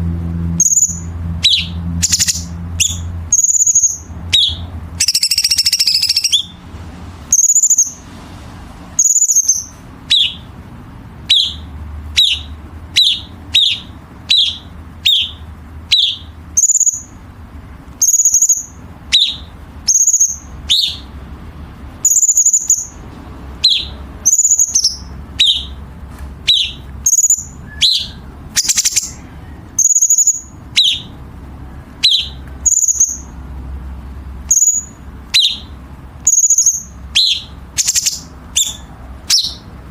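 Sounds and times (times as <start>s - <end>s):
songbird harsh calls: 0.6s - 6.6s, 7.3s - 8.1s, 9.0s - 10.6s, 11.2s - 17.2s, 18.0s - 21.2s, 22.0s - 25.8s, 26.4s - 31.2s, 31.8s - 33.4s, 34.4s - 39.8s.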